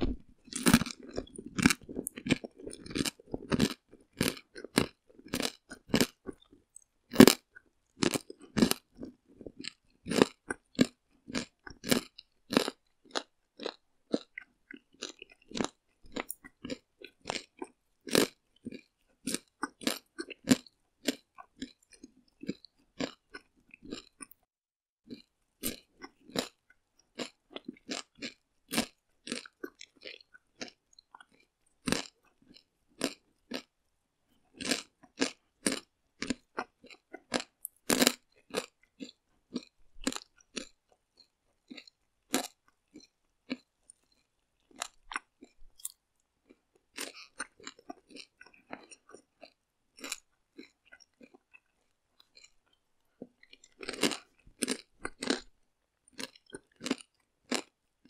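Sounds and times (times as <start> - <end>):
person chewing crunchy food: 0.0 - 24.5, 25.1 - 33.7, 34.5 - 57.8.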